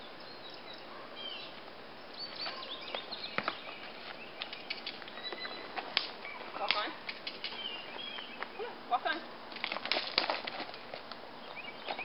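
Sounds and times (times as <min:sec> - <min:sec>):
songbirds chirping: 0:00.0 - 0:12.0
steady background hiss: 0:00.0 - 0:12.0.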